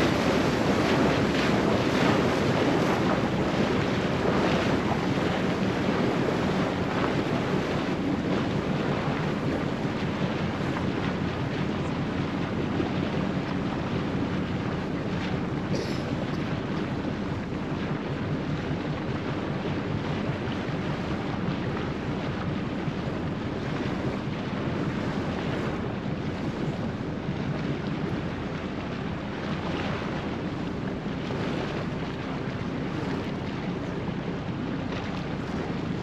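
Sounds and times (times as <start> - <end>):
boat engine drone: 0.0 - 36.0
water rushing along hull: 0.0 - 36.0
wind buffeting microphone: 0.0 - 36.0.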